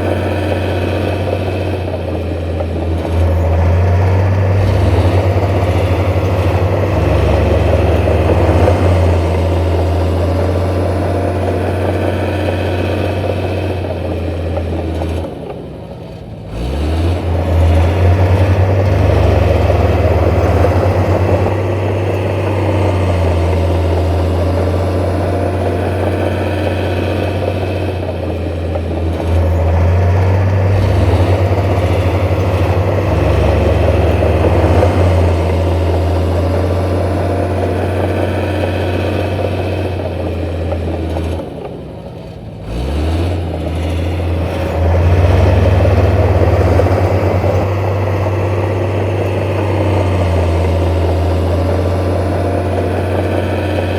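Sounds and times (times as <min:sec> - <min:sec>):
heavy diesel engine humming: 0:00.0 - 0:53.9.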